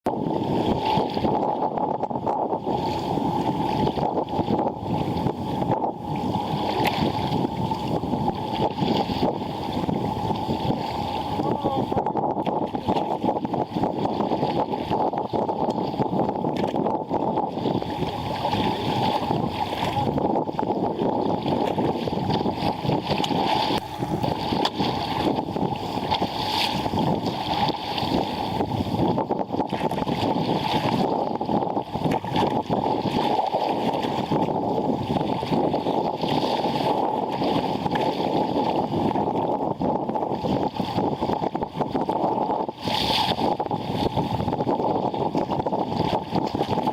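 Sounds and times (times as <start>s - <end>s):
water rushing along kayak hull: 0.0s - 46.9s.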